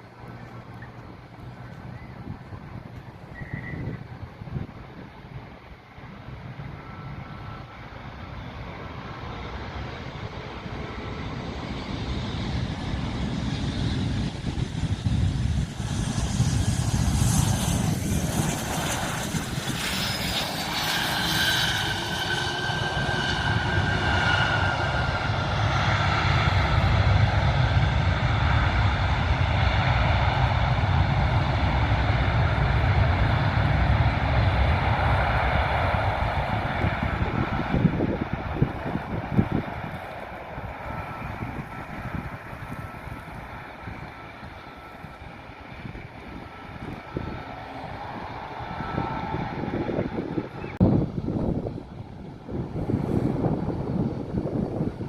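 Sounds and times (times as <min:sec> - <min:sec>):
airplane engines: 0:00.0 - 0:55.0
high engine whine: 0:00.0 - 0:55.0.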